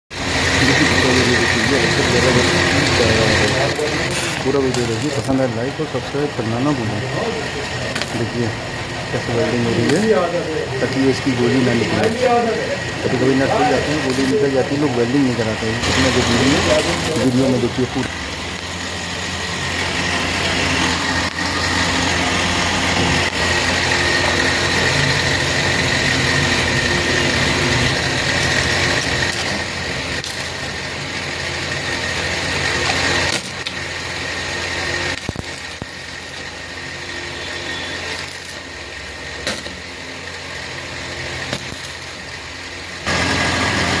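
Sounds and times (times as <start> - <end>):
arc welding hissing crackle: 0.2 - 44.0.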